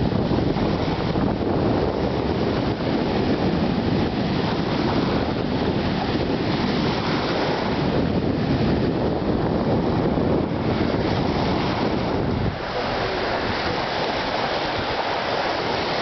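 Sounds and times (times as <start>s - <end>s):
wind on microphone: 0.0s - 16.0s
small waves breaking: 0.4s - 8.5s, 9.8s - 16.0s.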